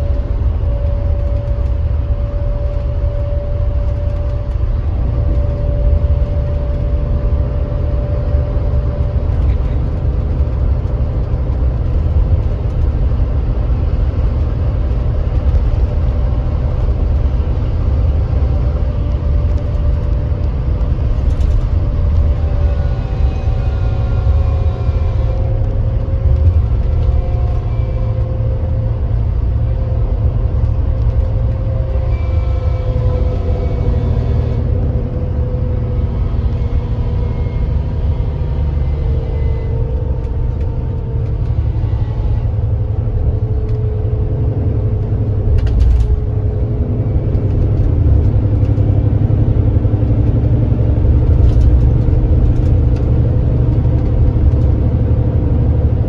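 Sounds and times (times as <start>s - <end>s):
coach engine running: 0.0s - 56.0s.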